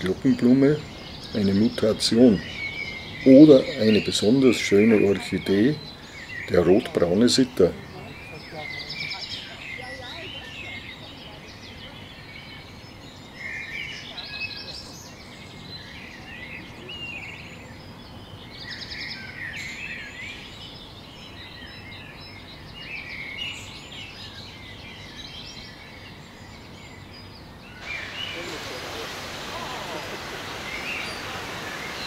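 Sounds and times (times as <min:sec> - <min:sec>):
low background hiss: 0:00.0 - 0:32.0
songbirds singing: 0:00.0 - 0:32.0.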